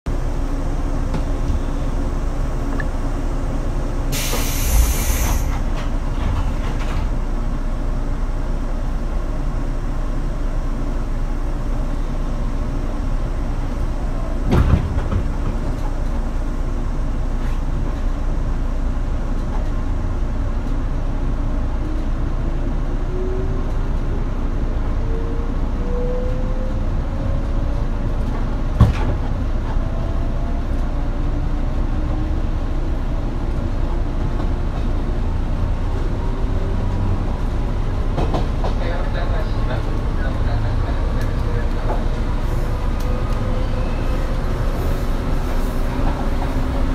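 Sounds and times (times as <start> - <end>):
train rumble: 0.1 - 46.9.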